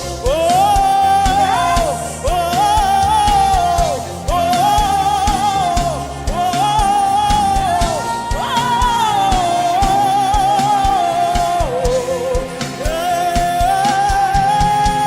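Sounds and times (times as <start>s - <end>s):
gospel band with kick drum: 0.0s - 15.0s
person singing long held notes: 0.0s - 15.0s.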